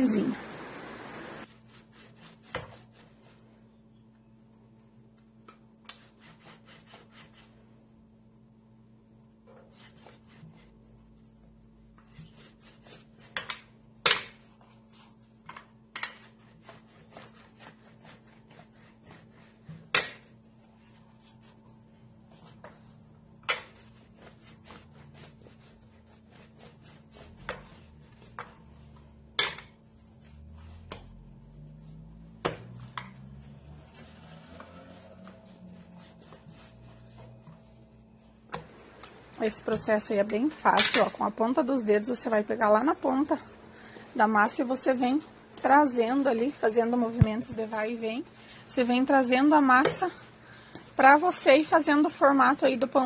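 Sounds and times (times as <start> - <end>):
rolling pin rolling dough: 1.4 - 3.4, 9.4 - 43.4, 44.2 - 53.0.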